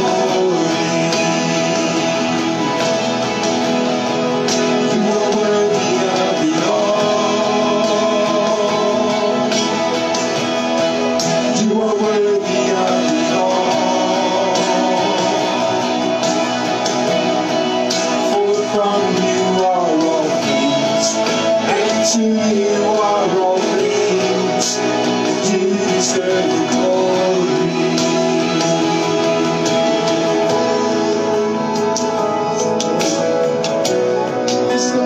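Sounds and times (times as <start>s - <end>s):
guitar over sustained chords: 0.0s - 35.0s
person singing: 0.0s - 35.0s.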